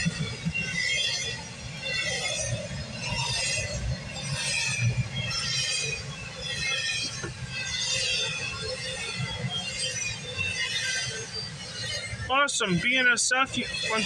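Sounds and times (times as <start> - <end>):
high hissing squealing wash: 0.0 - 14.0
train cars rumbling on rails: 0.0 - 14.0.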